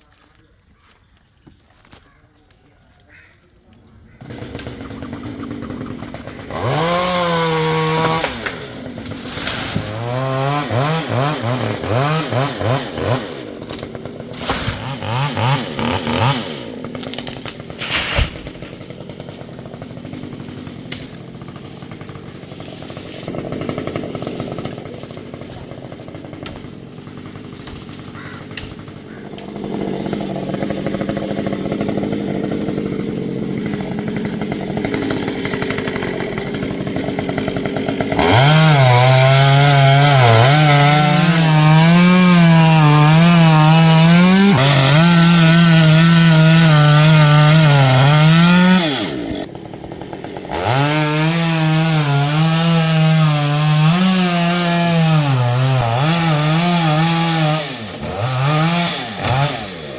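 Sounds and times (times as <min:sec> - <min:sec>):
chainsaw revving and cutting: 0:04.1 - 0:59.9.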